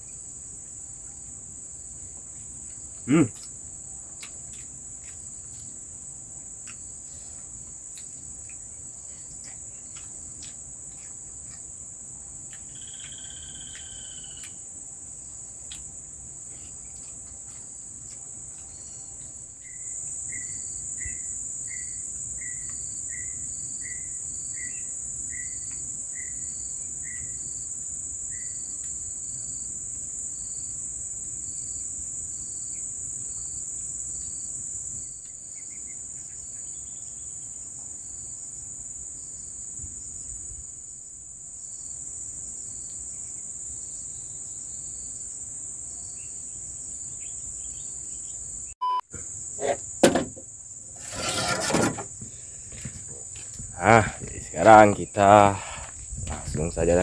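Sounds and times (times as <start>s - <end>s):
chorus of forest insects: 0.0s - 57.0s.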